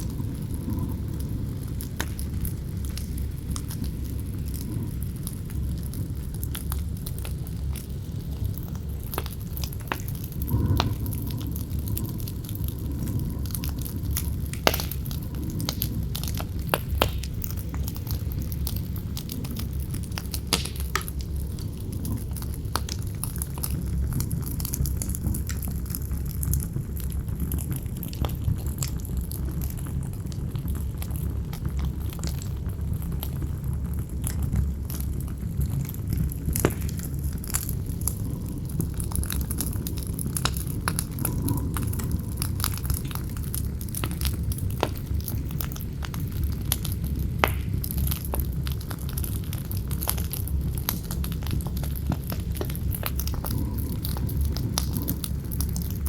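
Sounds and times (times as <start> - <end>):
campfire crackling and popping: 0.0 - 56.0
wind rumble: 0.0 - 56.0.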